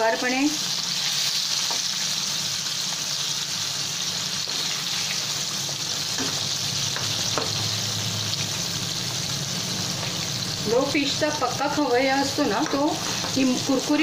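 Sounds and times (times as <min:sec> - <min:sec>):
fish deep-frying in hot oil: 0:00.0 - 0:14.0.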